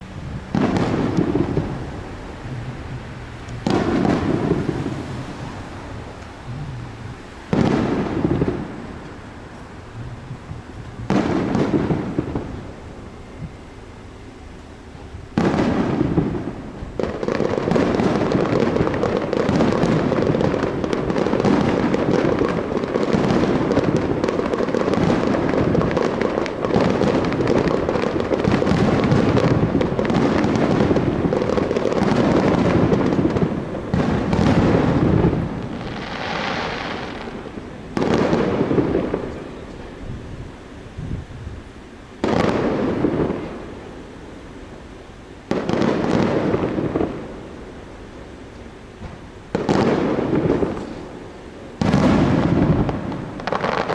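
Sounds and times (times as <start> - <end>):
fireworks bursting: 0.0 - 53.9
fireworks crackling: 0.0 - 53.9.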